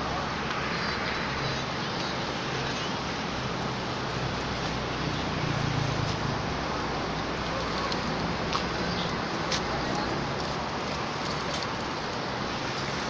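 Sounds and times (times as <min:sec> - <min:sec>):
continuous hiss: 0:00.0 - 0:13.0.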